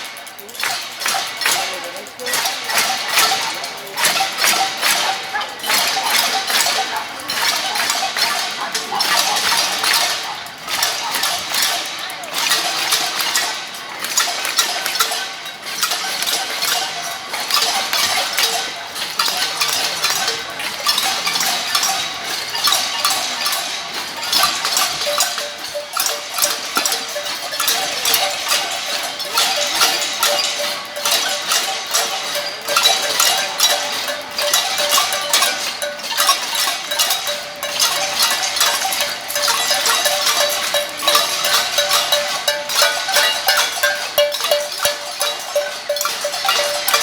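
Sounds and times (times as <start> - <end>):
people banging pots and pans: 0.0 - 47.0.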